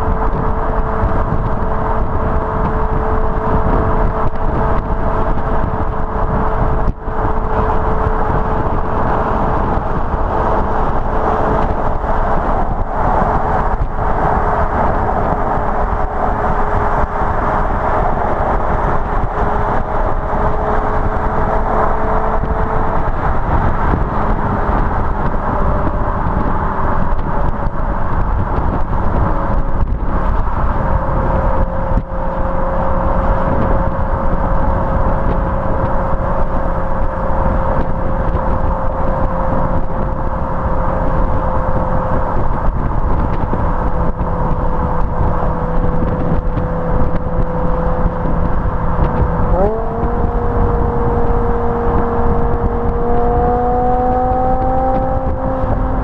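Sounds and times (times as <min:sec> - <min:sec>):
car exhaust droning: 0:00.0 - 0:56.0
wind and road noise: 0:00.0 - 0:56.0.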